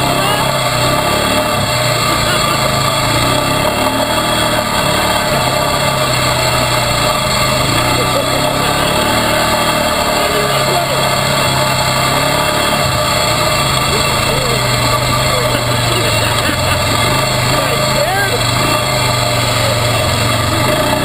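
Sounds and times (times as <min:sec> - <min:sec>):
quad engine running: 0:00.0 - 0:21.0.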